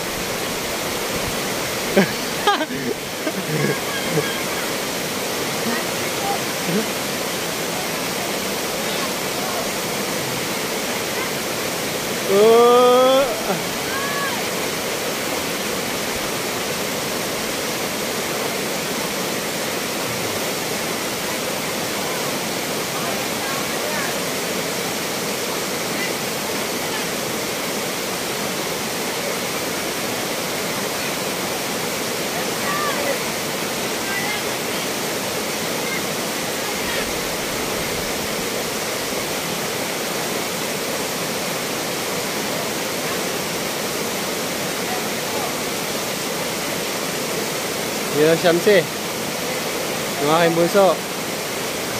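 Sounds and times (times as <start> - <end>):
river water rushing over boulders: 0.0 - 51.9.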